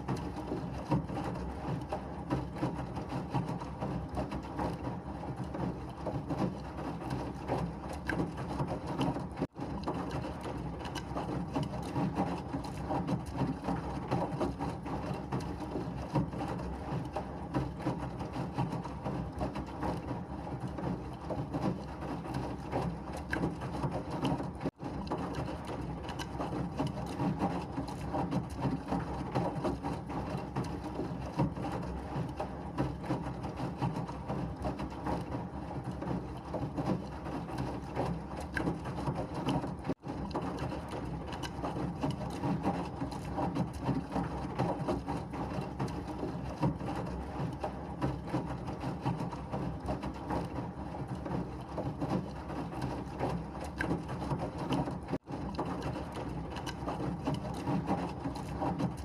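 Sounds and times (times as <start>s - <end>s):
washing machine churning: 0.0s - 59.0s.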